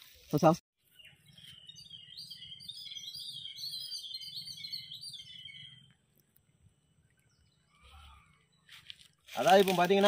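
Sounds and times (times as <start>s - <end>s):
birds chirping and singing: 0.3s - 10.0s.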